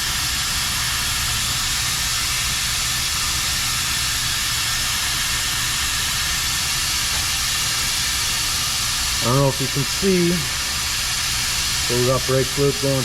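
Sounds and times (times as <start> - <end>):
vacuum brake bleeder hissing: 0.0 - 13.0.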